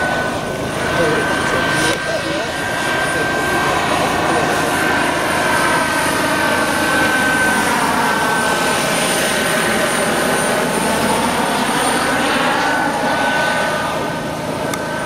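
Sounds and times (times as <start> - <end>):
helicopter rotors: 0.0 - 15.0
thin high whine: 0.0 - 15.0.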